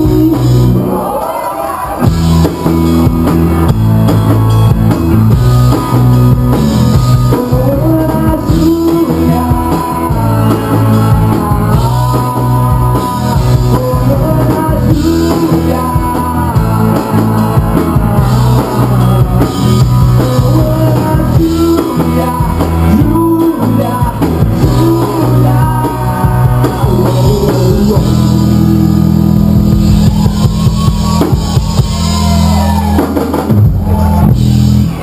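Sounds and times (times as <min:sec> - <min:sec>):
lead vocals: 0:00.0 - 0:02.4, 0:06.9 - 0:35.0
bass guitar: 0:00.0 - 0:35.0
drum kit: 0:00.0 - 0:35.0
electric guitar: 0:00.0 - 0:35.0.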